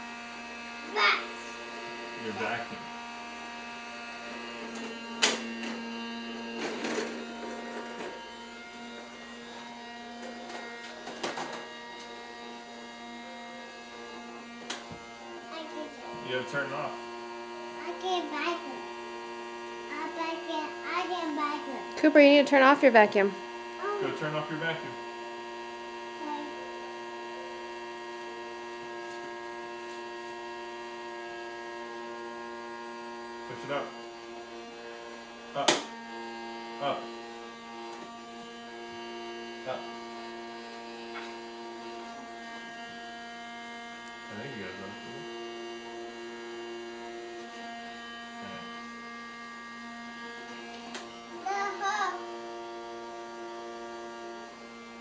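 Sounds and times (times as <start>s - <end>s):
vacuum cleaner motor humming: 0.0s - 55.0s.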